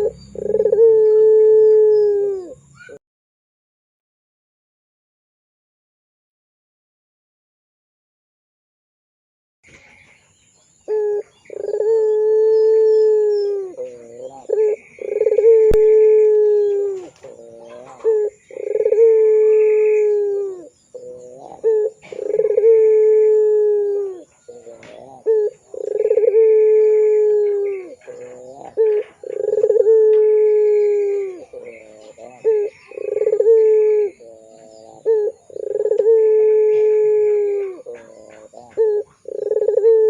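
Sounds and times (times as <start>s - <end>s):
dove cooing: 0.0s - 3.0s, 10.9s - 40.0s.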